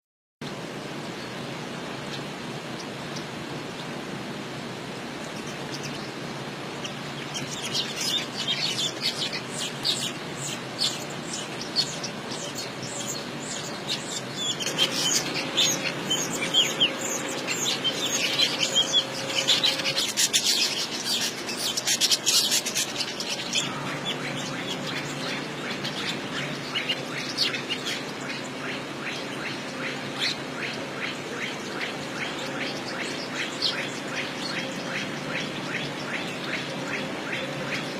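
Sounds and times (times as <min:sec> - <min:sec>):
steady background hiss: 0:00.4 - 0:37.9
small birds chirping: 0:05.2 - 0:37.9.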